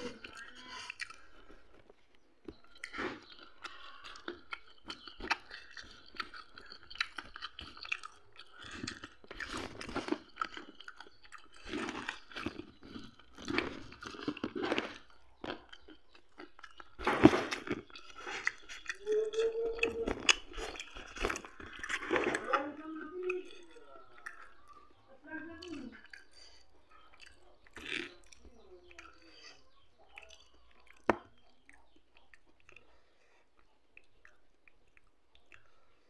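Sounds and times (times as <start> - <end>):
person chewing and crunching food: 0.0 - 36.0.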